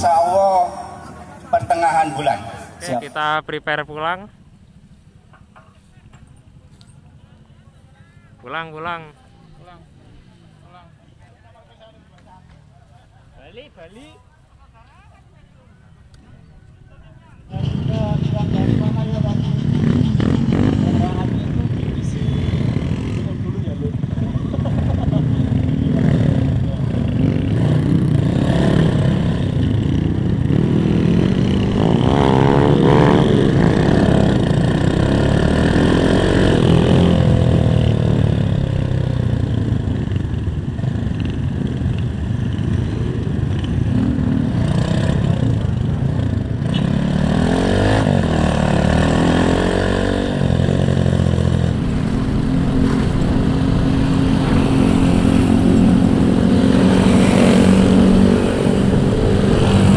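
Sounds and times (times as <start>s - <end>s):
motorcycle engines: 0.0s - 59.9s.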